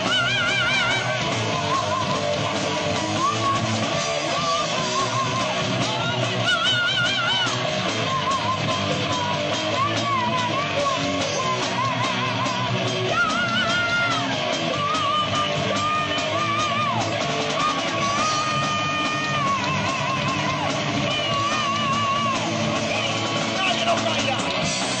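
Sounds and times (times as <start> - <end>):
heavy rock band playing: 0.0 - 25.0
wavering electric guitar lead: 0.0 - 25.0.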